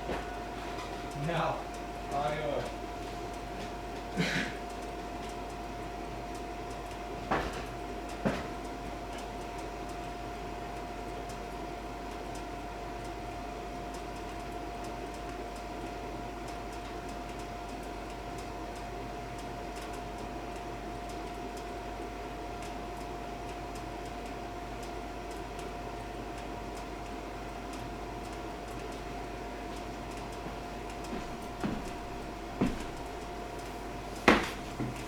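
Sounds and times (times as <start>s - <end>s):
heater motor whine: 0.0s - 35.0s.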